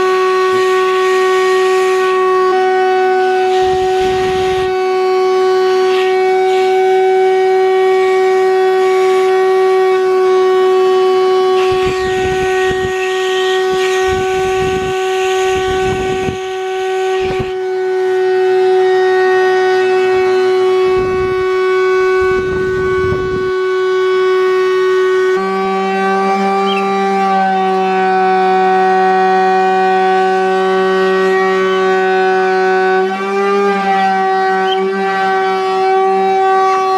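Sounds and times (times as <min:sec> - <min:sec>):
vacuum droning tone: 0:00.0 - 0:09.8, 0:10.4 - 0:36.9.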